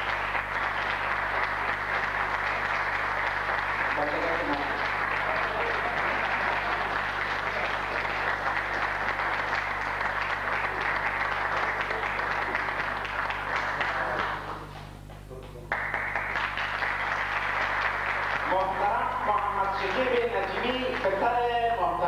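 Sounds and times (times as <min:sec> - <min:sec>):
audience applauding: 0:00.0 - 0:21.8.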